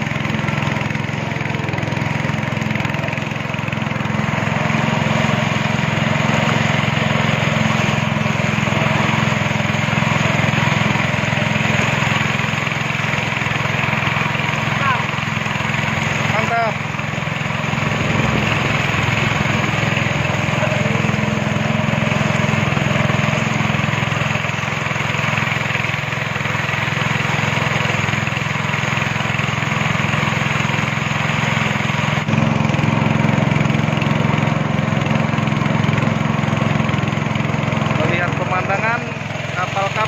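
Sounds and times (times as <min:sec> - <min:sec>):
speedboat engine running: 0:00.0 - 0:40.0.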